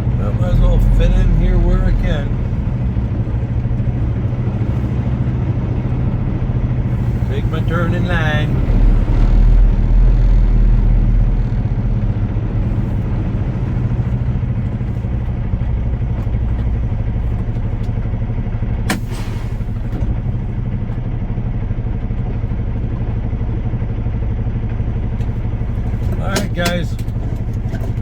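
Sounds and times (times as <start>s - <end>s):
diesel truck engine rumbling: 0.0s - 28.0s.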